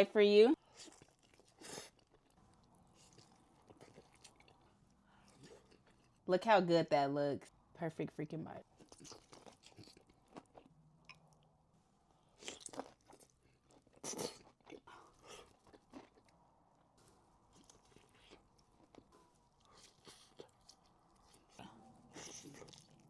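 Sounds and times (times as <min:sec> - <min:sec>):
person chewing crunchy food: 0:00.6 - 0:06.2, 0:08.7 - 0:11.5, 0:12.2 - 0:23.0.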